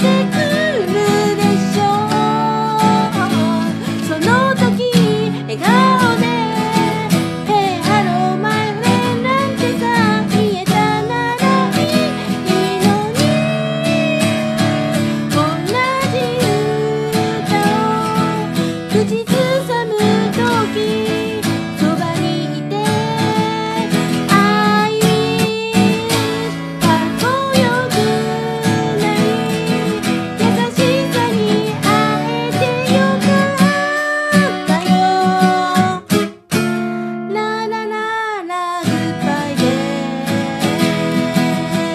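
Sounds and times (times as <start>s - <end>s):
acoustic guitar strumming: 0.0s - 38.0s, 38.8s - 41.9s
woman singing: 0.0s - 41.9s.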